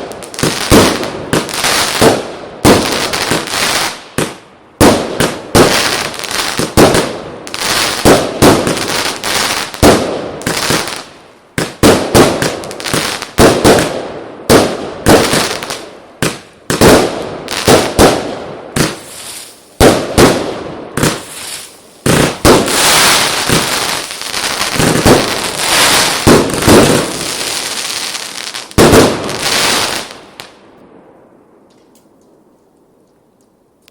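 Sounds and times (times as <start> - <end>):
firework bangs and crackling: 0.0 - 31.1.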